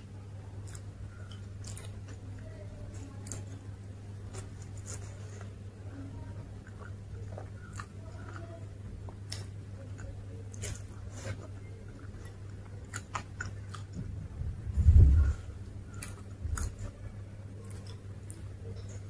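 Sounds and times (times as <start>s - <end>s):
person chewing crisp food: 0.5s - 5.8s, 6.4s - 14.2s, 15.5s - 19.0s.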